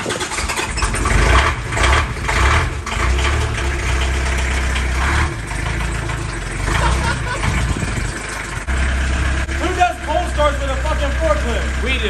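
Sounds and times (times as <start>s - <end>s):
forklift engine rumbling: 0.0s - 12.0s.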